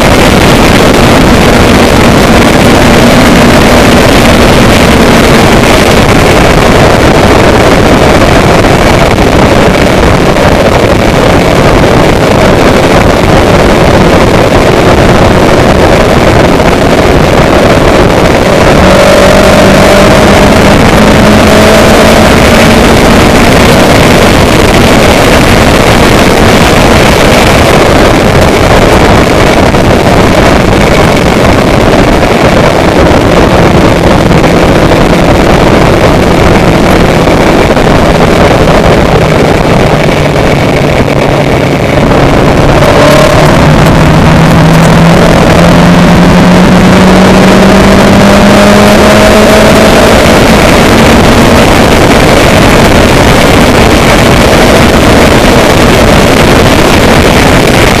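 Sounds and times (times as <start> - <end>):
loud rushing noise: 0.0 - 58.0.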